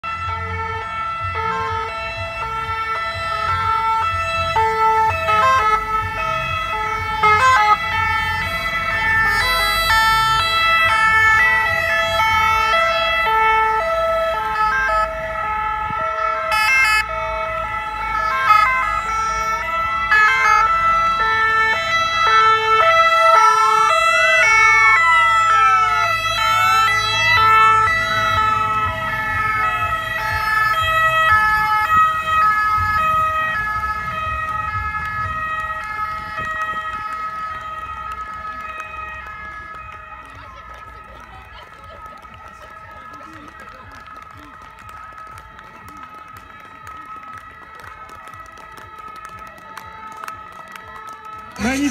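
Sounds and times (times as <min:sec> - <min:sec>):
two-tone sirens: 0:00.0 - 0:51.9
wailing siren: 0:00.0 - 0:51.9.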